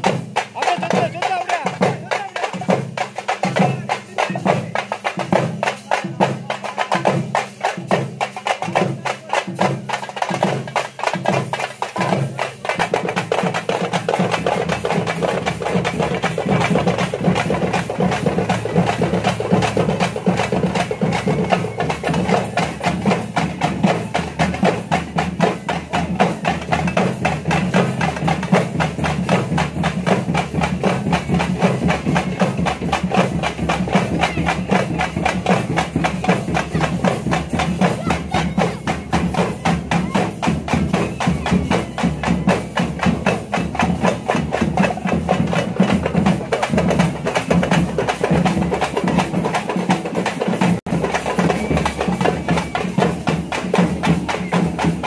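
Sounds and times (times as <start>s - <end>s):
drums beating fast: 0.0s - 55.0s.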